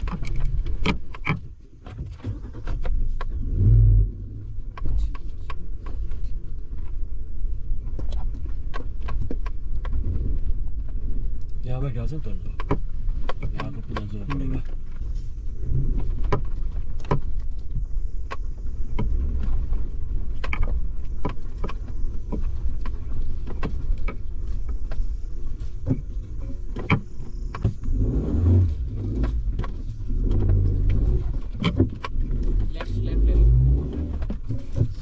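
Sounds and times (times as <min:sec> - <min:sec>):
engine and drivetrain rumble: 0:00.0 - 0:35.0
bodywork knocking and rattling: 0:04.6 - 0:28.0, 0:28.8 - 0:35.0.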